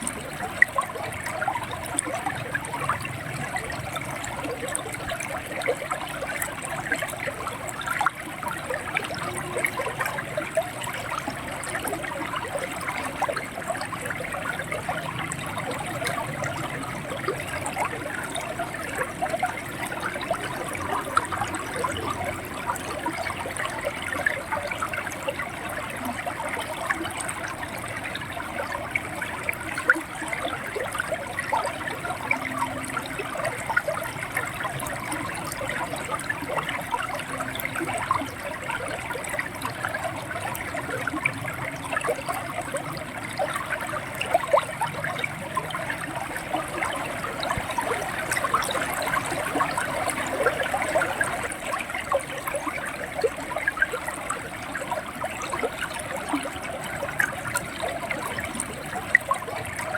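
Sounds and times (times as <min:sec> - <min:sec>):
river water over rocks: 0:00.0 - 0:59.9.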